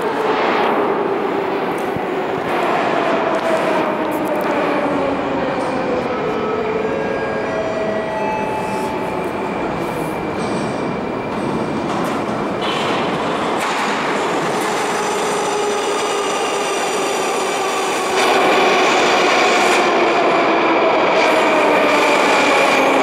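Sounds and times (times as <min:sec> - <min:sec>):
train wheels rumbling on rails: 0:00.0 - 0:06.7, 0:08.6 - 0:23.0.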